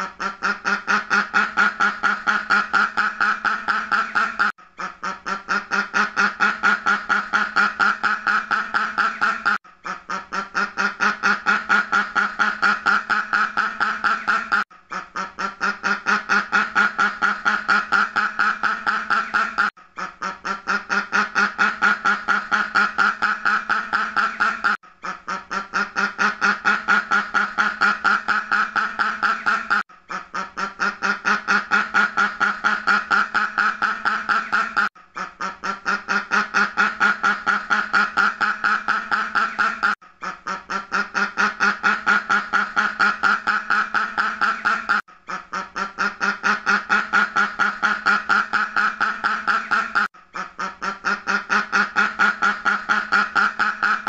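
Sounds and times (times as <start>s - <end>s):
duck quacking rapidly: 0.0s - 54.0s.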